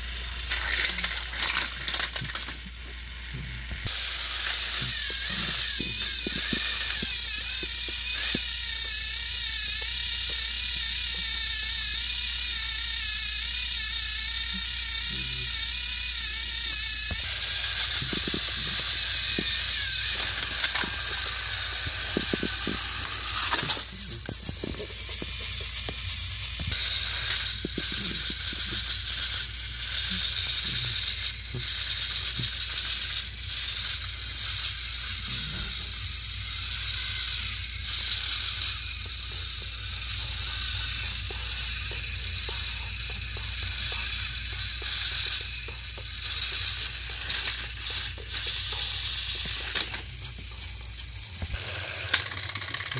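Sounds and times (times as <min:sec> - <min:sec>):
plastic gears rattling and clicking: 0:00.0 - 0:03.2, 0:03.8 - 0:52.9
small electric motors whirring: 0:00.0 - 0:52.9.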